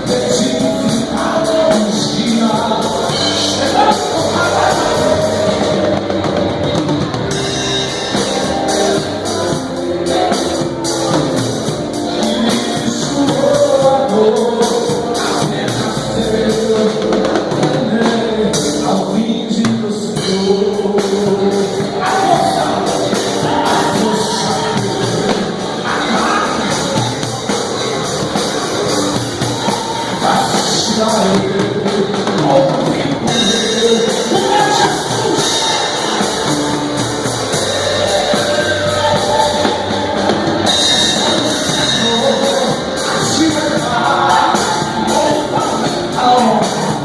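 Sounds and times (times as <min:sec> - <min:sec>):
band with drum kit: 0:00.0 - 0:47.0
voices singing gospel: 0:00.0 - 0:47.0.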